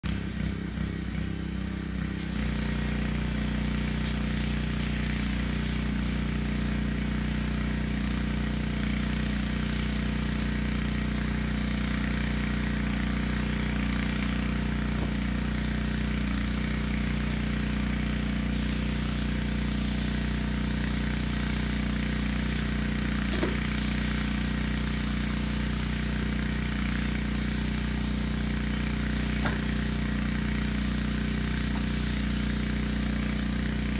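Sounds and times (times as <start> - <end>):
low mechanical drone: 0.0 - 33.9.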